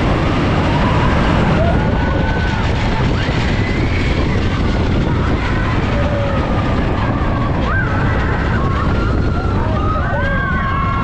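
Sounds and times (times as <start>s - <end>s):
roller coaster rumbling on track: 0.0s - 11.0s
wind on microphone: 0.0s - 11.0s.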